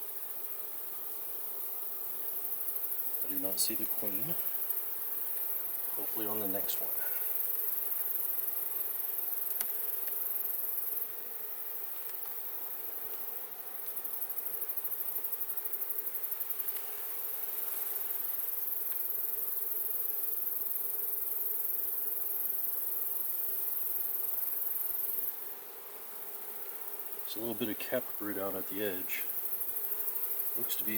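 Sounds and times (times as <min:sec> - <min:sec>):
honeybees buzzing: 0:00.0 - 0:30.9.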